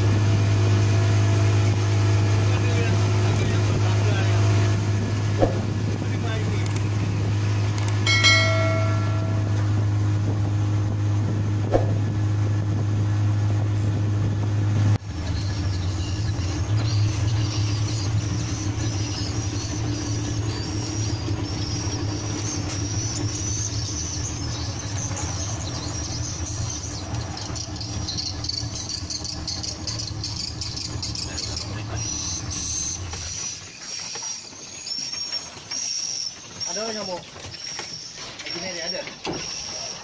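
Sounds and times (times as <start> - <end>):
boat engine drone: 0.0 - 40.0.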